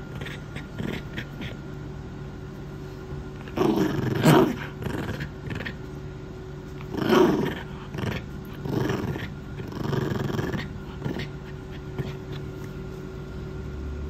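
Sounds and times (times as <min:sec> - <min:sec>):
puppy growling: 0:00.0 - 0:01.8, 0:03.3 - 0:12.8.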